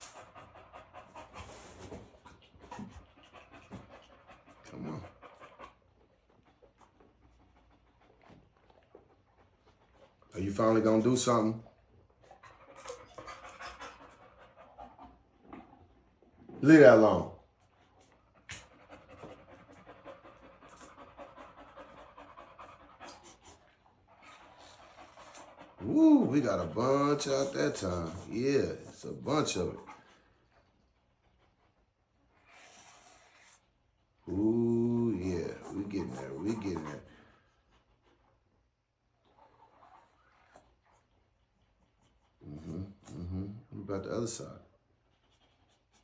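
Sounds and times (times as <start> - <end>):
dog panting heavily: 0.0 - 38.5, 44.7 - 46.0.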